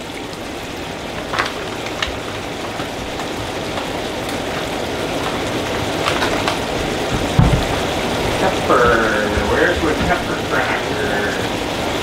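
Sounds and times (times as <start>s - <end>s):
mushrooms sizzling in pan: 0.0s - 11.4s.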